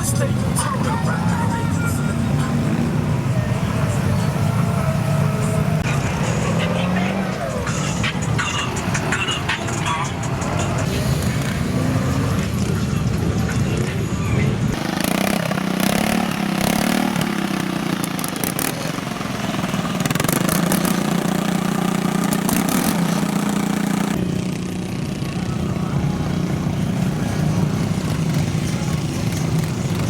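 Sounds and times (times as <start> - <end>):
off-road vehicle engines running: 0.0 - 30.0.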